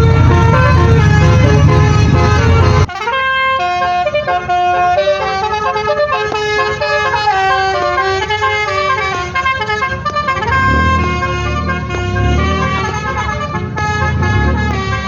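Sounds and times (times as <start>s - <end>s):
musical car horn melody: 0.0s - 15.0s.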